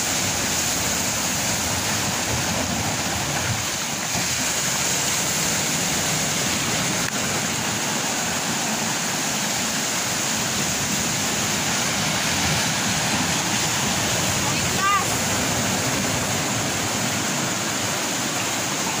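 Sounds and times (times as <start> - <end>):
sea surf breaking: 0.0 - 19.0.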